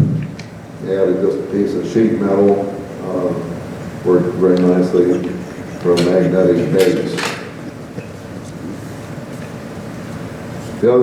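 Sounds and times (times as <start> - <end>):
room background noise: 0.0 - 11.0.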